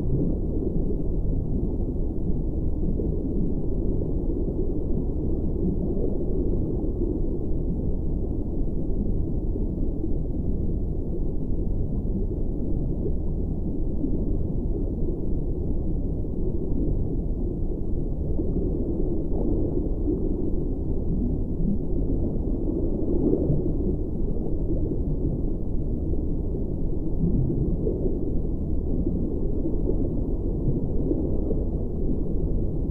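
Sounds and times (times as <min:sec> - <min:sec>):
low muffled rumbling drone: 0:00.0 - 0:32.9.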